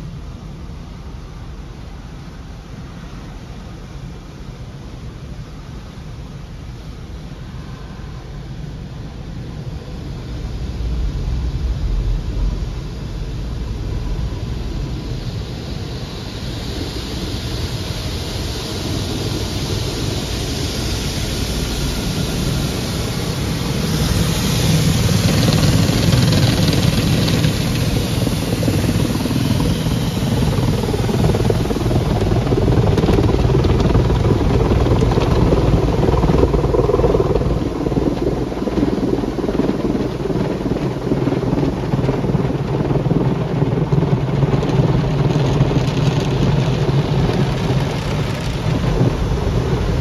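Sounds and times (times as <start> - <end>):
car wash machinery running: 0.0 - 50.0.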